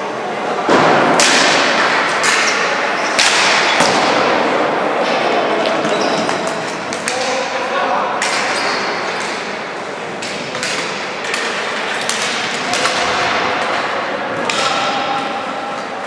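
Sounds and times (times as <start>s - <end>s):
hockey sticks clacking on ball: 1.2s - 4.2s, 5.0s - 7.5s, 8.2s - 16.0s.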